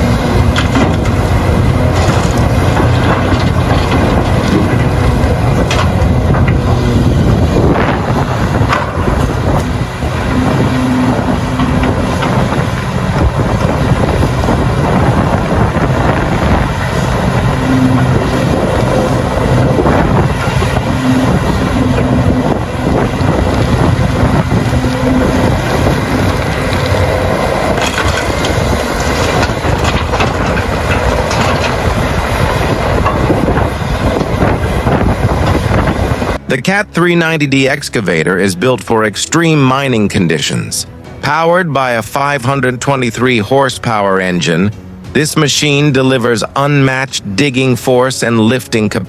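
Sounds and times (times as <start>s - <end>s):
rock and earth crunching: 0.0s - 42.6s
excavator diesel engine under load: 0.0s - 49.0s.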